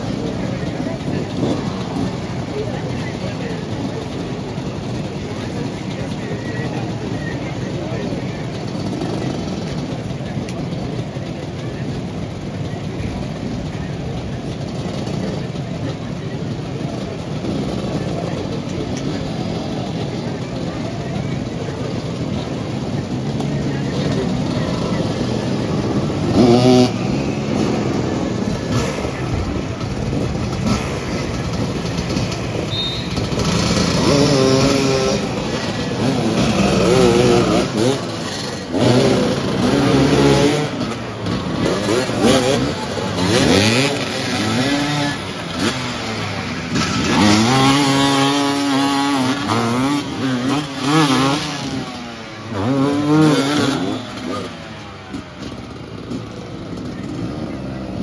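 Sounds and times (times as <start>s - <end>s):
motorcycles revving: 0.0s - 58.0s.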